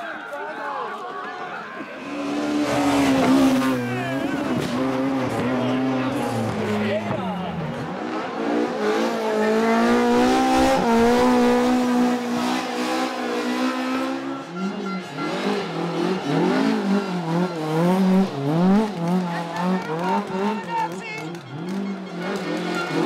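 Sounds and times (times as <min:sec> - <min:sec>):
rally car engine revving: 0:02.0 - 0:23.0.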